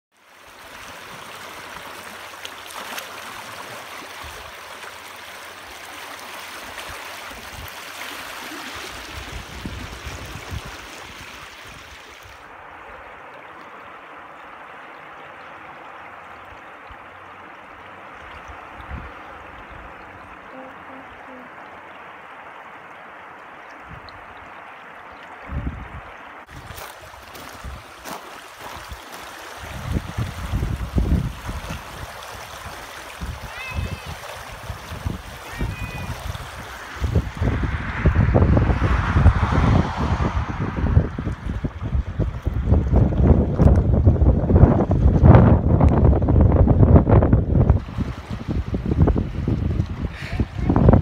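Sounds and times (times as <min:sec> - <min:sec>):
floodwater rushing: 0:00.1 - 0:51.0.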